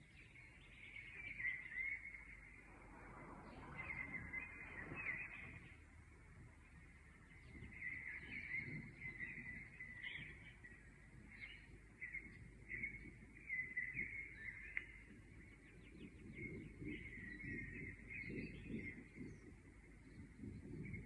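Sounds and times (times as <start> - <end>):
small birds chirping: 0.0 - 2.7, 3.4 - 21.0
low background rumble: 0.0 - 21.0.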